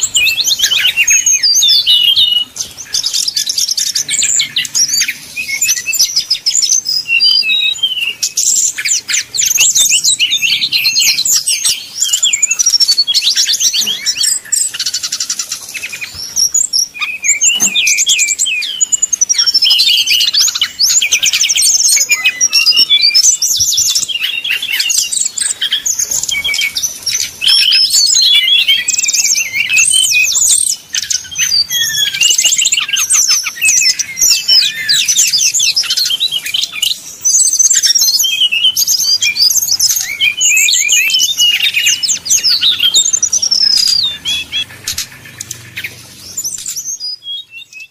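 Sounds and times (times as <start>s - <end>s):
bird singing rapid trills: 0.0s - 47.9s.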